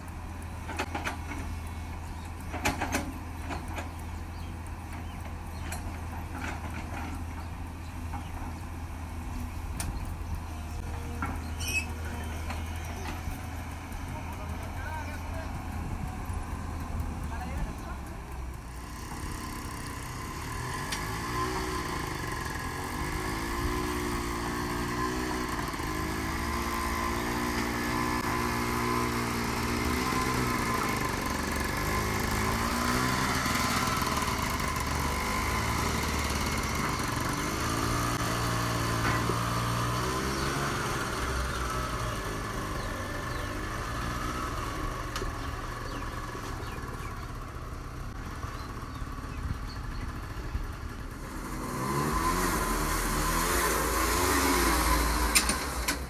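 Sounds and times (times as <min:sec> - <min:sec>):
small tractor engine under load: 0:00.0 - 0:56.0.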